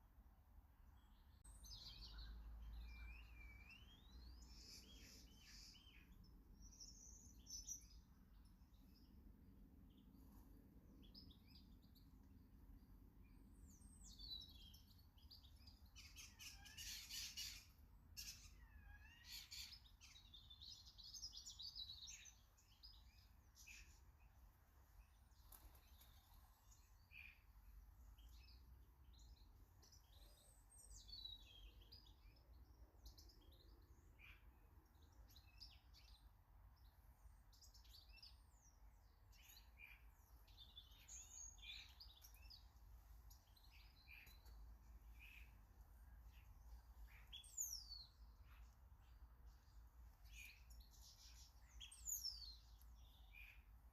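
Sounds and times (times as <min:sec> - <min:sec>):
garden birds singing and chirping: 0:00.0 - 0:53.9.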